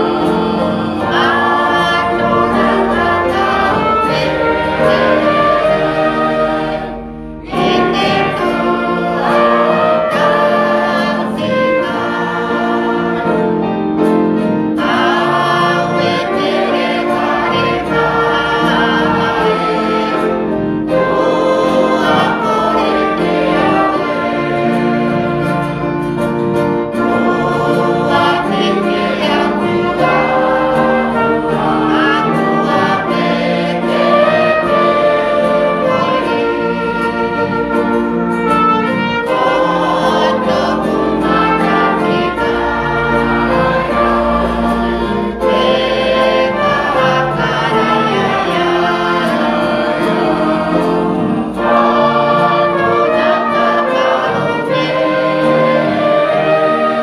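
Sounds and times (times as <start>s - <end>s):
choir singing: 0.0s - 57.0s
instrumental accompaniment: 0.0s - 57.0s.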